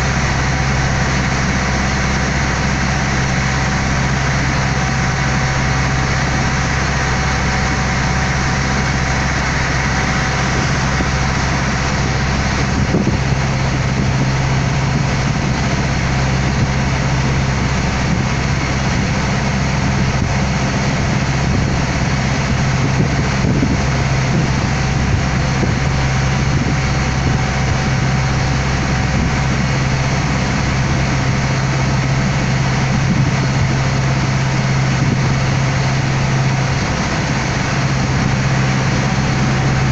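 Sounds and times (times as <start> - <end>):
boat engine humming: 0.0 - 39.9
water rushing along hull: 0.0 - 39.9.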